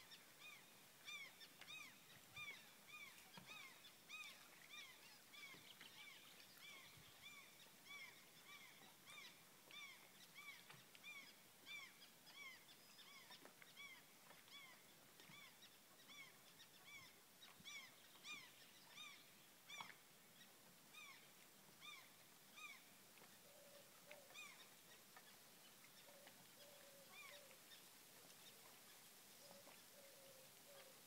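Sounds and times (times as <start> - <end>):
distant waterbird calls: 0.0 - 31.0.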